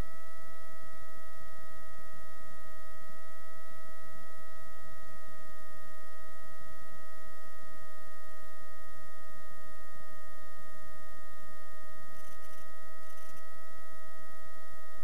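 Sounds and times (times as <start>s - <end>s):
constant high whine: 0.0s - 15.0s.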